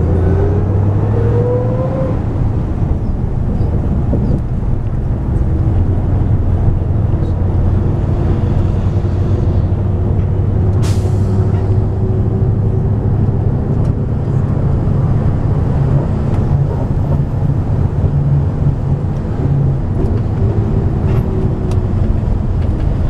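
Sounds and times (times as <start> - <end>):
car engine: 0.0 - 23.0
road noise inside moving car: 0.0 - 23.0.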